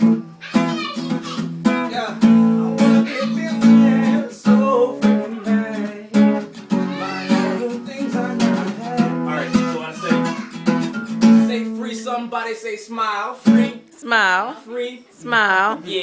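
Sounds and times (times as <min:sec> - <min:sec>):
acoustic guitar strumming: 0:00.0 - 0:14.5.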